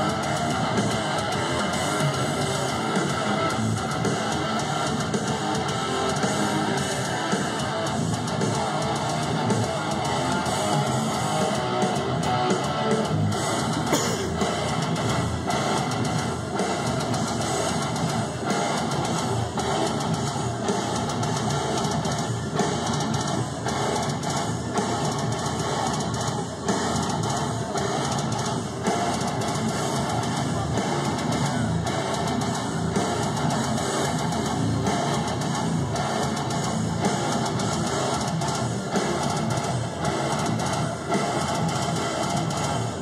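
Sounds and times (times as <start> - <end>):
heavy metal electric guitars: 0.0 - 43.0.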